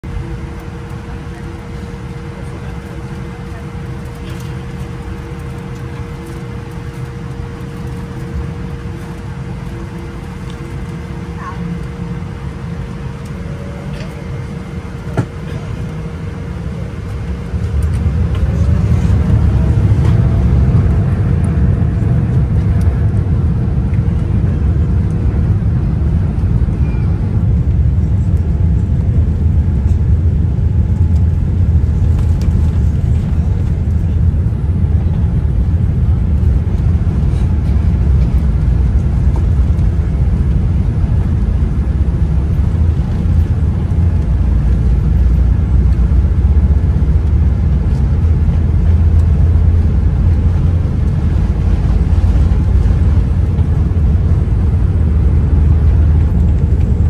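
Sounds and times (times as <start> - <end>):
airliner cabin noise: 0.0 - 57.0
jet engines rumbling: 0.0 - 57.0.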